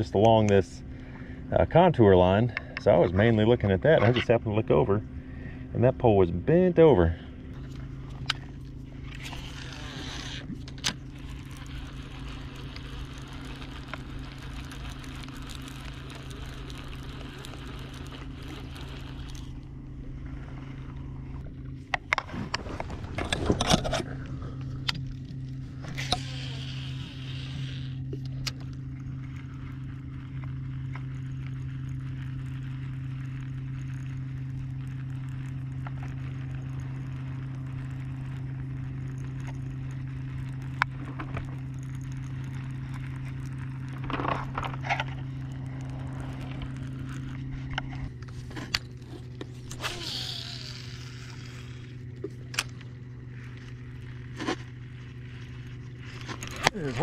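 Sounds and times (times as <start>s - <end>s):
boat motor humming: 0.0s - 57.0s.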